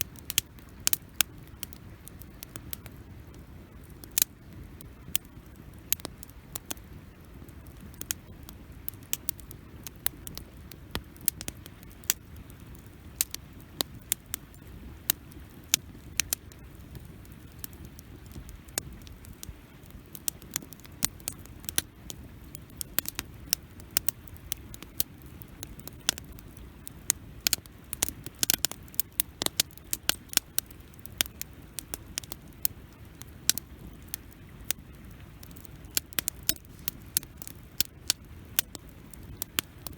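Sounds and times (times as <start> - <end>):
campfire pops and snaps: 0.0 - 39.9
low rush of flames: 0.0 - 39.9.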